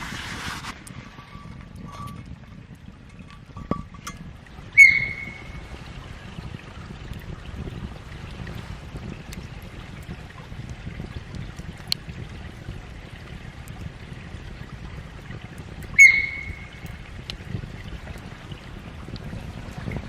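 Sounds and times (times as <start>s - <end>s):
low background rumble: 0.6s - 20.0s.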